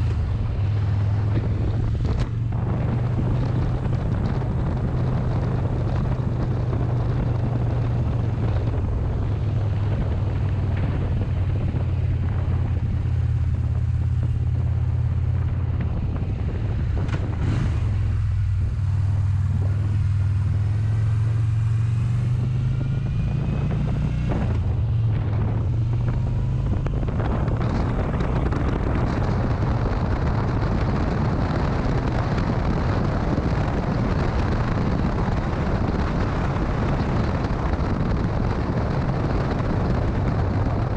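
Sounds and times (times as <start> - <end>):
motorcycle engine droning: 0.0 - 40.9
wind noise on microphone: 0.0 - 40.9.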